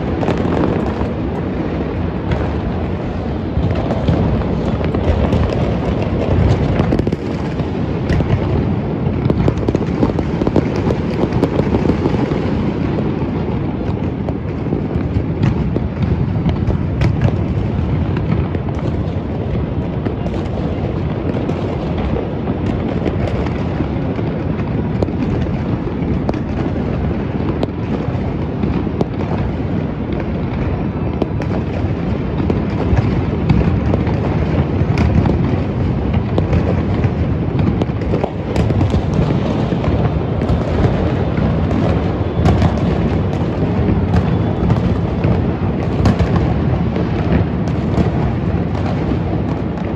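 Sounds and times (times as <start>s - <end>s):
firecrackers popping and crackling: 0.0s - 49.9s
fireworks booming: 0.0s - 49.9s.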